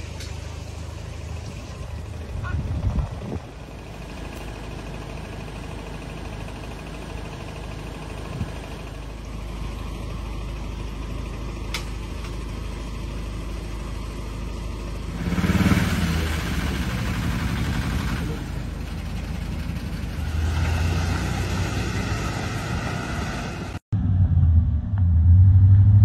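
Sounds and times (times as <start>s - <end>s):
car engine idling: 0.0s - 23.8s.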